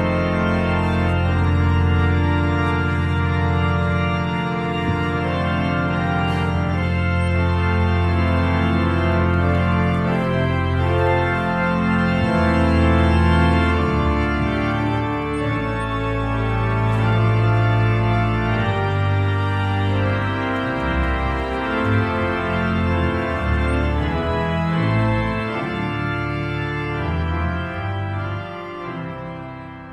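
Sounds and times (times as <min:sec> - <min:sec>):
church organ playing chords: 0:00.0 - 0:29.9.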